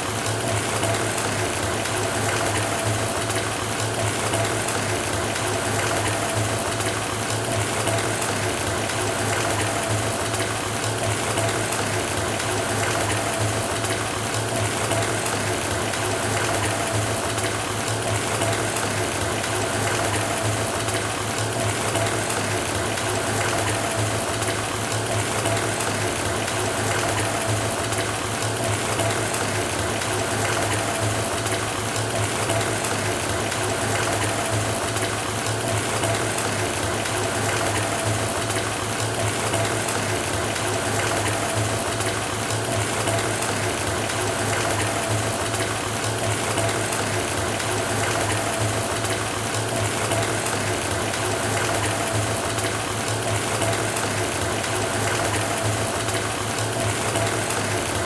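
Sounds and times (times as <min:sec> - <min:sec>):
water pouring into bathtub: 0:00.0 - 0:58.0.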